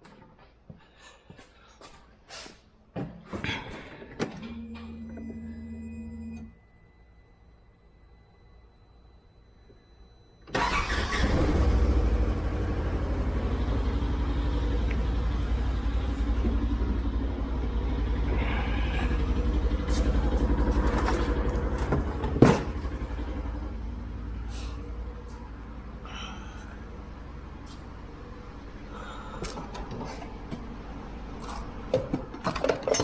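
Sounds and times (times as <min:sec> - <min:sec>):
engine starting and running: 0:03.8 - 0:33.0.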